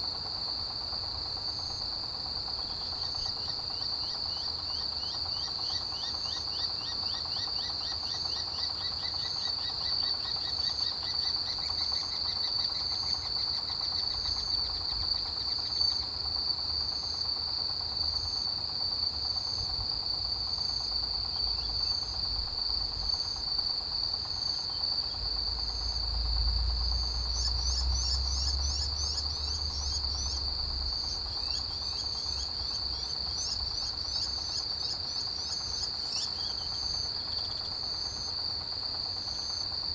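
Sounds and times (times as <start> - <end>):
insects chirping in pulses: 0.0 - 39.9
insects trilling: 0.0 - 39.9.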